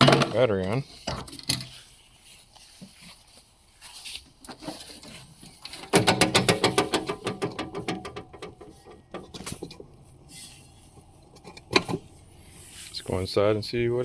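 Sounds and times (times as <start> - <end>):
faint handling noises: 0.1 - 14.0.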